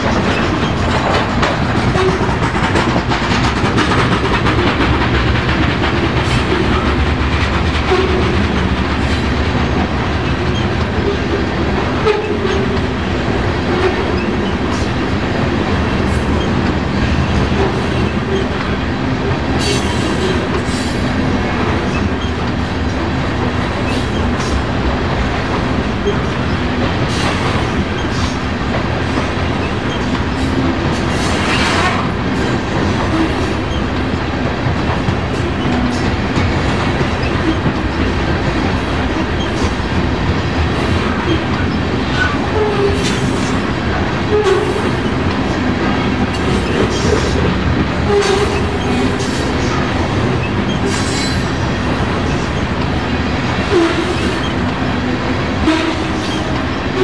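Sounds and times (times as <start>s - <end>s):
train cars rumbling past: 0.0s - 57.0s
wheels clacking over rail joints: 0.0s - 57.0s.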